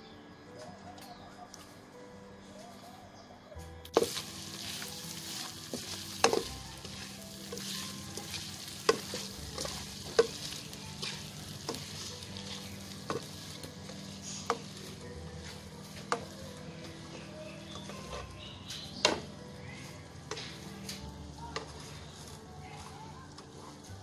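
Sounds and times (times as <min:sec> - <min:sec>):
prawns sizzling in wok: 0:03.9 - 0:24.0.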